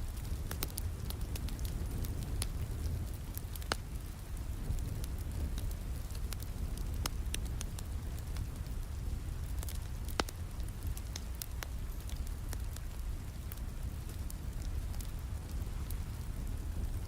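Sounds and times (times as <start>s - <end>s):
steady rain: 0.0s - 17.0s
wood fire crackling and popping: 0.0s - 17.0s.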